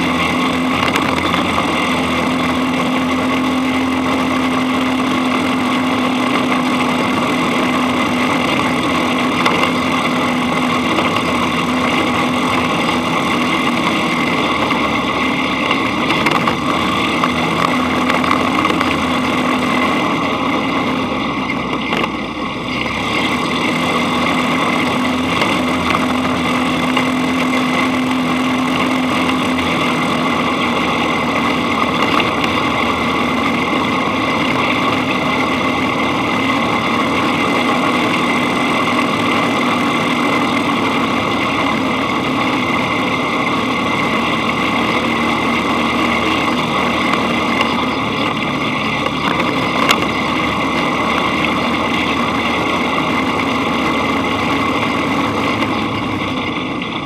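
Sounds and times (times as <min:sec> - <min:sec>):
dune buggy engine running: 0:00.0 - 0:57.0
road and wind noise: 0:00.0 - 0:57.0.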